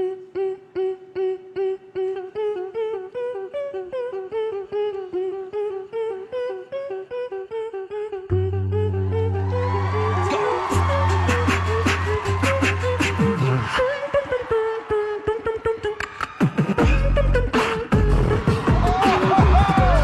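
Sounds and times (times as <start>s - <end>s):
person humming a tune: 0.0s - 16.0s, 16.8s - 20.0s.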